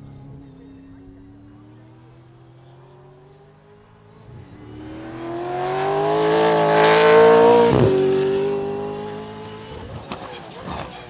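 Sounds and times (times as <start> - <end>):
race car accelerating past: 0.0 - 11.0.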